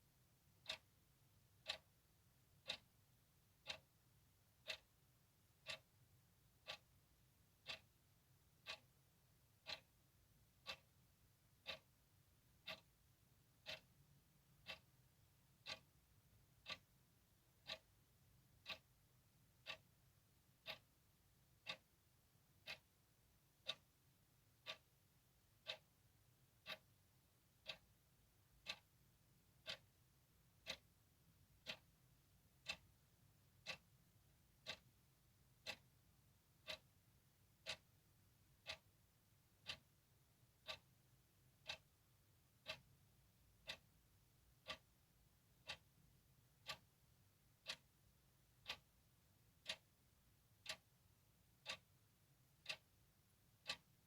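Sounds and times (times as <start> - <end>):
clock ticking: 0.4 - 54.0.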